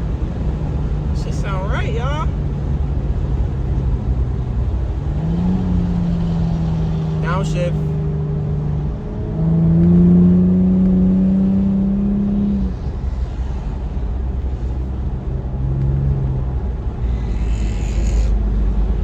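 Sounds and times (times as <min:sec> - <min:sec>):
car exhaust accelerating: 0:00.0 - 0:19.0.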